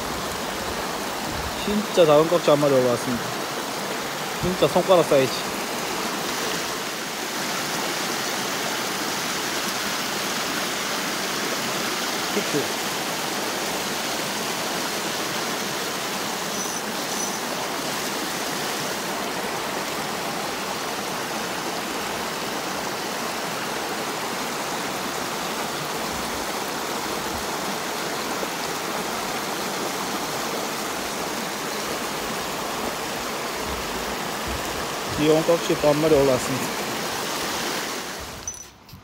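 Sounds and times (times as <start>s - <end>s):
mountain stream rushing over stones: 0.0s - 38.8s.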